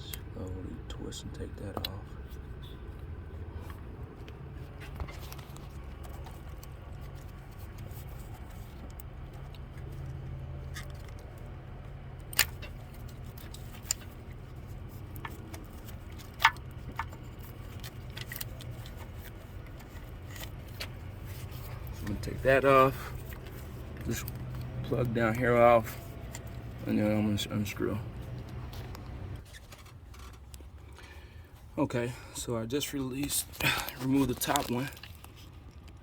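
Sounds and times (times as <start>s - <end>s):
steady low rumble: 0.0s - 29.5s.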